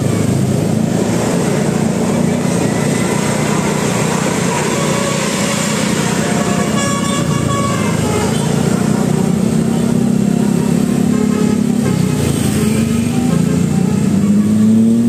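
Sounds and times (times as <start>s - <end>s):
motorcycle engines running: 0.0s - 15.0s
musical bus horn: 0.0s - 15.0s
road traffic: 0.0s - 15.0s.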